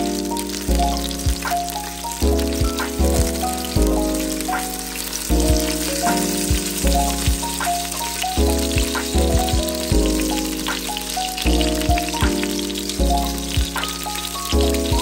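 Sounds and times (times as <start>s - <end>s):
background music with deep bass: 0.0s - 15.0s
sausages sizzling in a pot: 0.0s - 15.0s.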